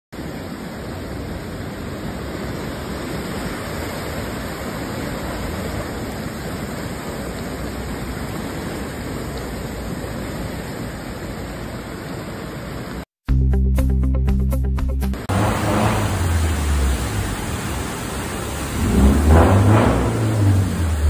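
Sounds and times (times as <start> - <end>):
torrential rain and floodwater rushing: 0.2 - 13.1, 15.2 - 21.0.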